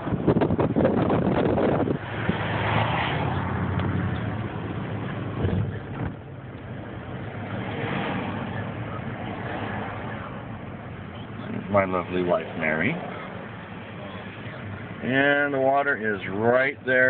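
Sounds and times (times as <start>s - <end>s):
car road and engine hum: 0.0s - 17.0s.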